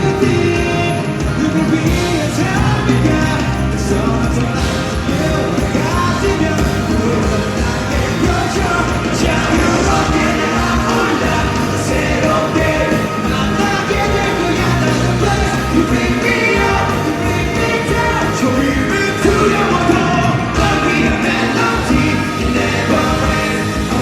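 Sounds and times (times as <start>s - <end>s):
lead vocal singing: 0.0s - 24.0s
live rock band playing: 0.0s - 24.0s.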